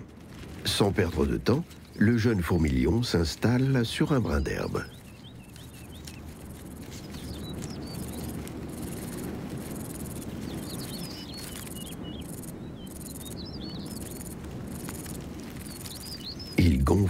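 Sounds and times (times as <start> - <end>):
birds chirping: 0.0 - 17.0
insects buzzing: 0.0 - 17.0.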